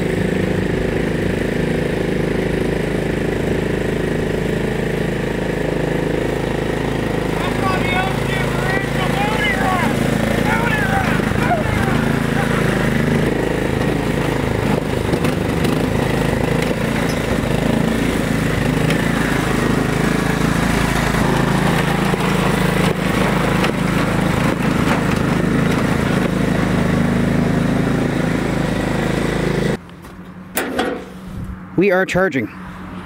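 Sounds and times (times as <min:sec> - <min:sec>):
garden tractor engine running: 0:00.0 - 0:31.4.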